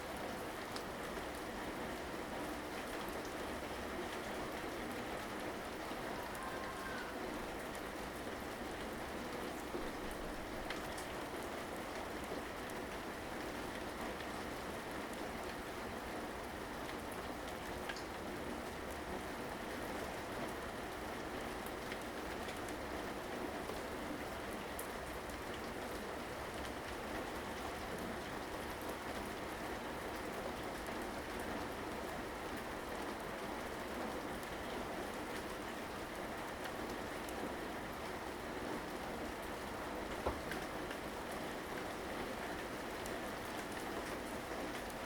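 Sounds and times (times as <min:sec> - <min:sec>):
rain falling: 0:00.0 - 0:45.0
raindrops ticking on surfaces: 0:00.0 - 0:45.0.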